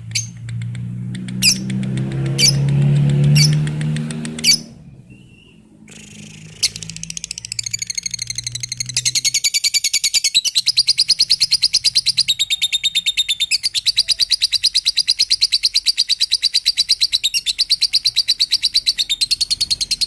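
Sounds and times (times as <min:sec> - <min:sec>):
lovebird chirps: 0:00.0 - 0:00.6, 0:01.4 - 0:01.7, 0:02.3 - 0:03.8, 0:04.4 - 0:20.0
lovebird chattering trill: 0:01.4 - 0:01.7, 0:02.4 - 0:02.7, 0:04.4 - 0:20.0.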